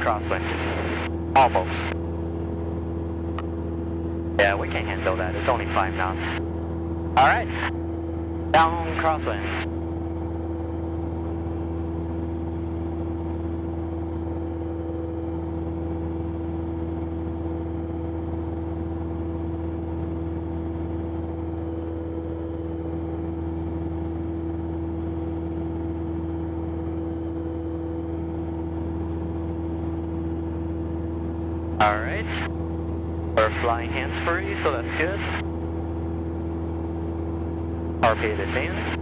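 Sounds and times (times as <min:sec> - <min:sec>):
propeller plane engine droning: 0:00.0 - 0:39.0.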